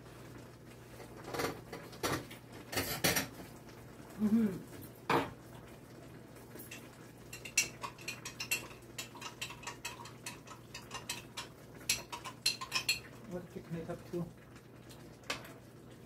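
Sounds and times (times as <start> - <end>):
vegetables popping in a skillet: 0.0 - 15.8.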